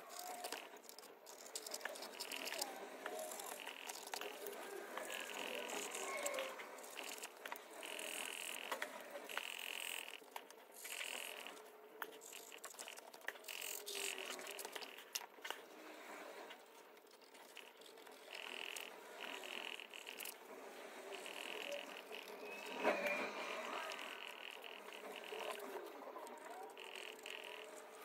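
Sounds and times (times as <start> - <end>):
paintbrush clicks and scratches: 0.0 - 15.6, 16.4 - 28.0.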